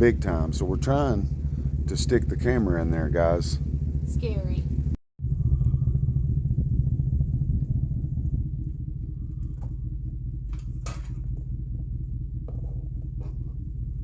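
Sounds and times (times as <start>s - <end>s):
fluttering low rumble: 0.0s - 14.0s.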